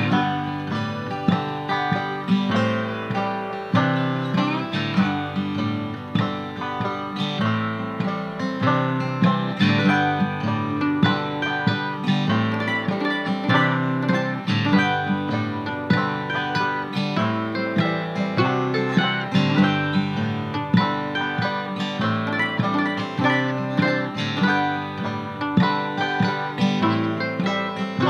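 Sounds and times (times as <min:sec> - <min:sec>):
plucked acoustic strings: 0:00.0 - 0:28.0.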